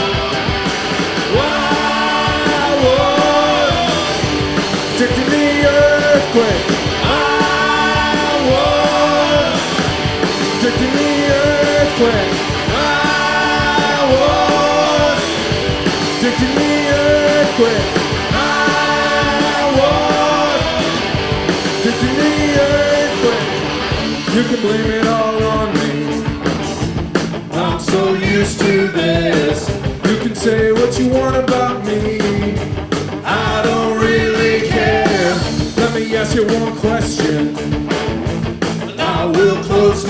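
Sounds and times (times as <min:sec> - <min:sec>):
vocals: 0:00.0 - 0:38.1, 0:38.7 - 0:40.0
live rock band playing: 0:00.0 - 0:40.0.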